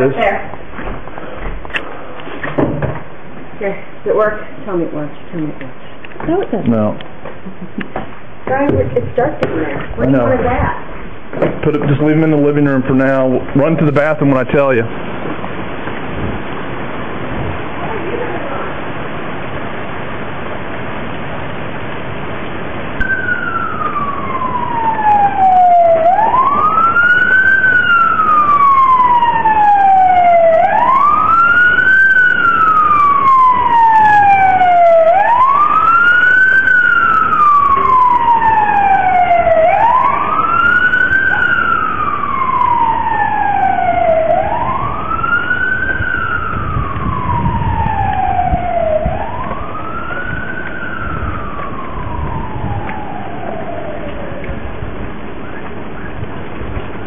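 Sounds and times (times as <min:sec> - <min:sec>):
rain hissing: 0:00.0 - 0:57.0
warning siren wailing: 0:08.6 - 0:57.0.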